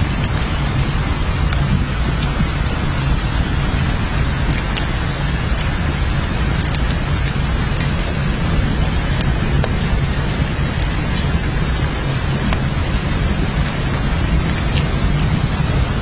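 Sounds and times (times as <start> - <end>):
heavy rain falling: 0.0 - 16.0
rain drop ticks: 0.0 - 16.0.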